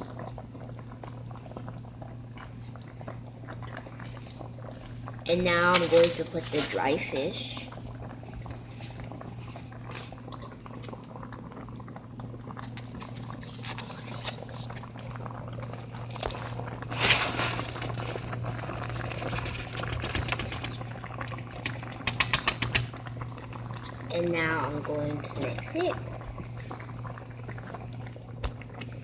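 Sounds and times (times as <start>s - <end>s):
soup bubbling and popping: 0.0s - 29.0s.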